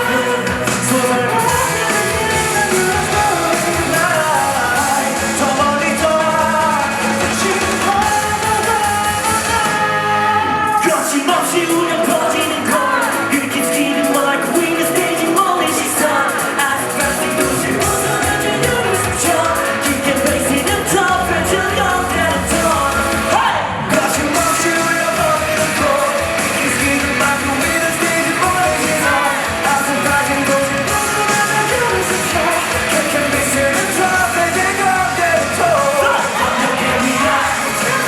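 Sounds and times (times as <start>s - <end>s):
live rock band playing: 0.0s - 38.0s
person singing: 0.0s - 38.0s.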